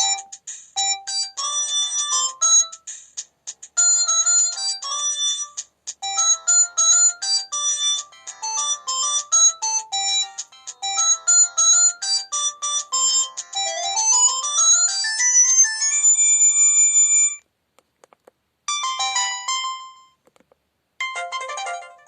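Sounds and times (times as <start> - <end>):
synthesized phone ringtone melodies: 0.0 - 3.0, 3.8 - 17.4, 18.7 - 20.2, 21.0 - 22.0.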